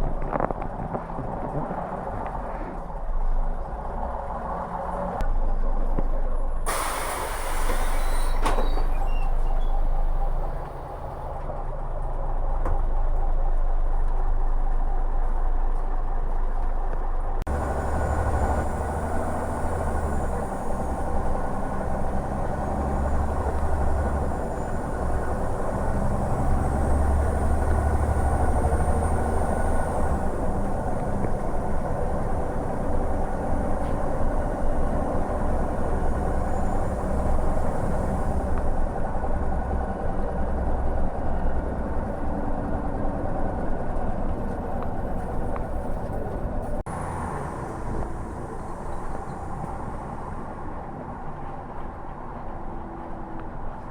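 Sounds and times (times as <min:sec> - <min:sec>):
bus diesel engine rumble: 0:00.0 - 0:53.9
road noise: 0:00.0 - 0:53.9.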